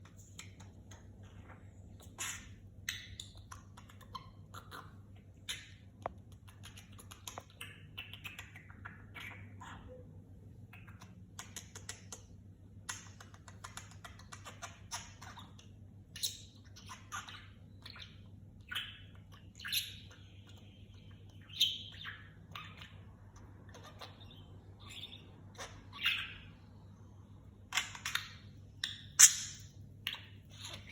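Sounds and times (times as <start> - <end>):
faint low hum: 0.0 - 30.9
budgerigar chirping and chattering: 0.1 - 12.3, 12.9 - 26.9, 27.6 - 30.9.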